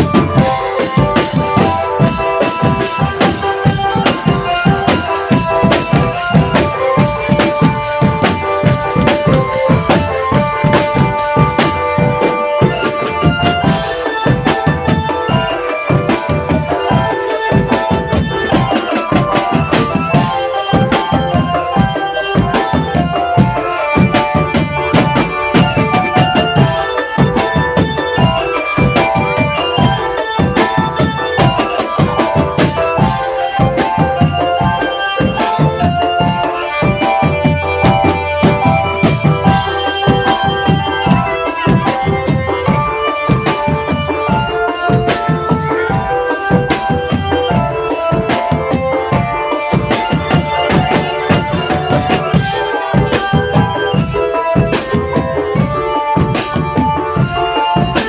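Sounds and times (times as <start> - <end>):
marching drum band playing: 0.0 - 58.0.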